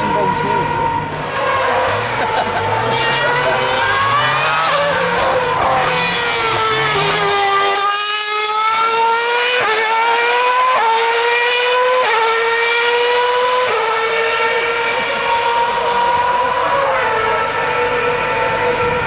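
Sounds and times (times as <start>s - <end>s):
racing car engine accelerating: 0.0s - 19.0s.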